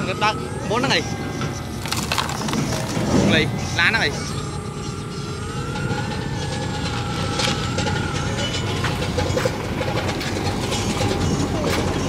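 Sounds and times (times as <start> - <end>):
model excavator motors whining: 0.0 - 12.0.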